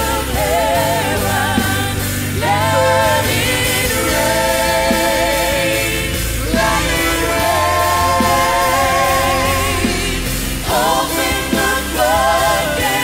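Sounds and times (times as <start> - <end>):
band accompaniment: 0.0 - 13.0
singers holding long notes: 0.0 - 13.0.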